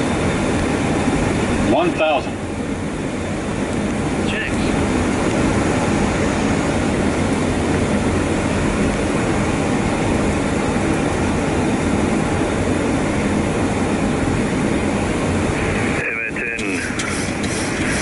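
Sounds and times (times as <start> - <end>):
aircraft engine noise: 0.0 - 18.0
rushing airflow: 2.5 - 18.0.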